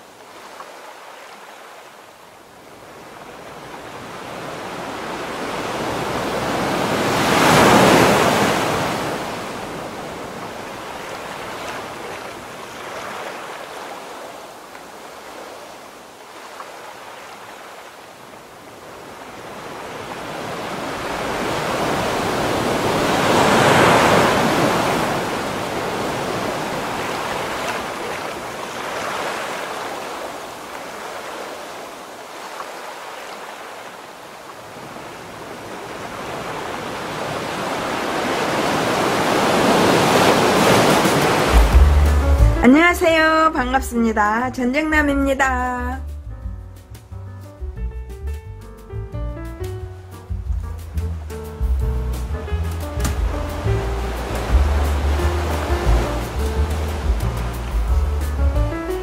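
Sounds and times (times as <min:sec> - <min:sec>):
ocean waves washing in: 0:00.0 - 0:43.3, 0:50.8 - 0:59.0.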